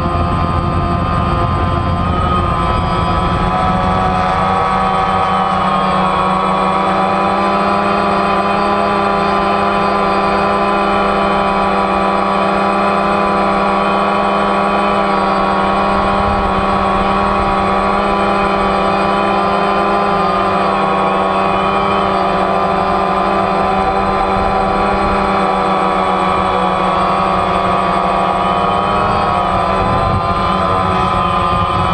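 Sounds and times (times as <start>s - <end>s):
drone propellers buzzing: 0.0s - 31.9s.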